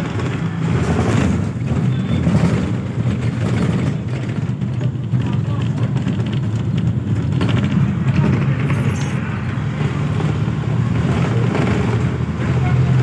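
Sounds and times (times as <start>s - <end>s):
vehicle engine hum and road noise: 0.0s - 13.0s.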